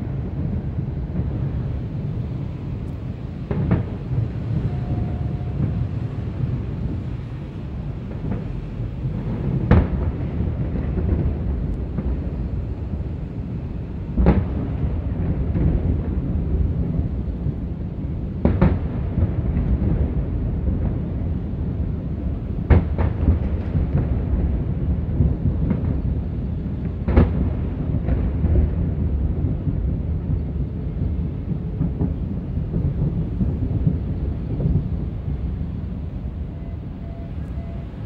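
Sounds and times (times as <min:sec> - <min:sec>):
low fireworks rumble: 0:00.0 - 0:38.0
fireworks bangs: 0:03.1 - 0:38.0.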